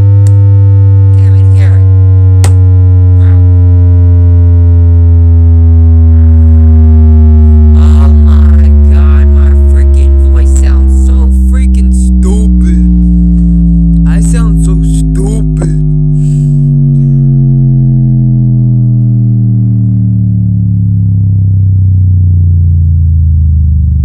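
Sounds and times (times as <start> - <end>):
deep bass tone falling in pitch: 0.0 - 24.0.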